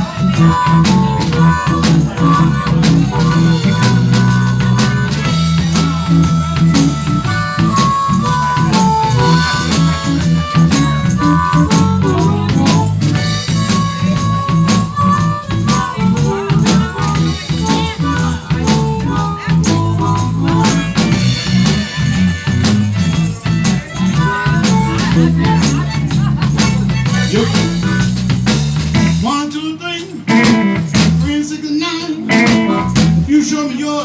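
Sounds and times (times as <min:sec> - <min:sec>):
bass line: 0:00.0 - 0:29.3, 0:30.3 - 0:31.4, 0:32.3 - 0:33.4
lead instrument bending notes: 0:00.0 - 0:29.3, 0:30.3 - 0:31.2, 0:32.3 - 0:33.3
shaker or tambourine: 0:00.0 - 0:31.4, 0:32.3 - 0:33.2
drums keeping a beat: 0:00.0 - 0:34.0.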